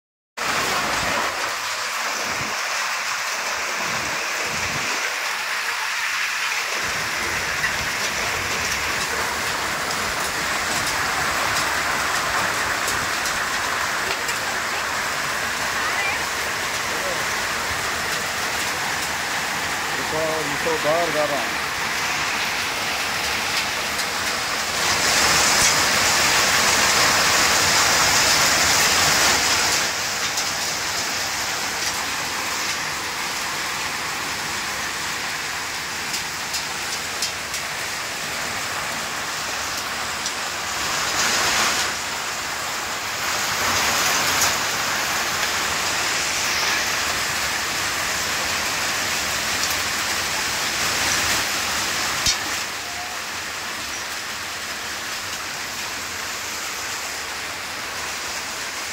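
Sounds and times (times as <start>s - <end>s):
heavy rain: 0.4s - 58.9s
hail ticks: 6.3s - 58.5s.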